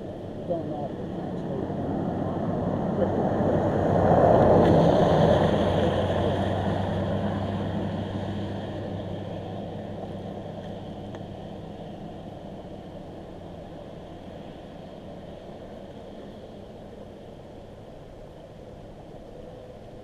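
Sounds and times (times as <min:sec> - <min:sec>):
vehicle passing on road: 0:00.0 - 0:20.0.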